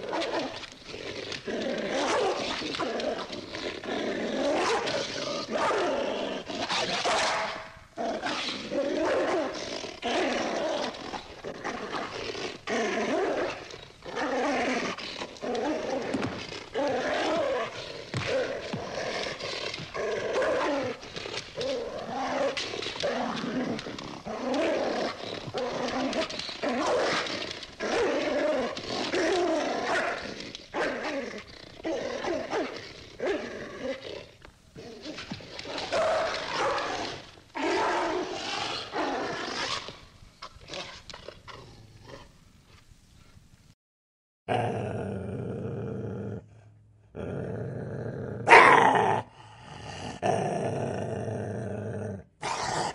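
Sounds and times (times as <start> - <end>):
dog growling: 0.0 - 42.3, 44.5 - 52.9.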